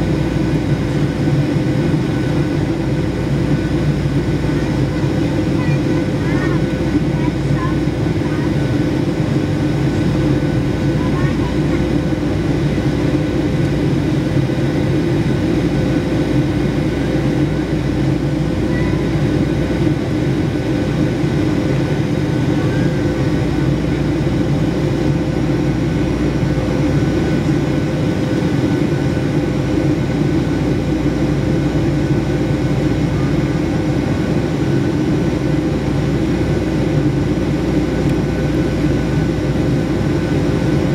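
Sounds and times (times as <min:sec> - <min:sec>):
jet engines and rushing air: 0:00.0 - 0:40.9.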